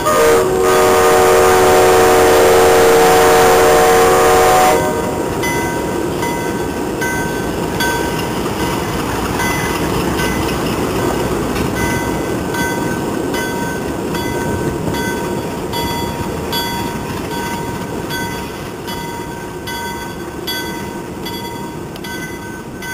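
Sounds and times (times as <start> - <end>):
diesel locomotives running past: 0.0 - 22.9.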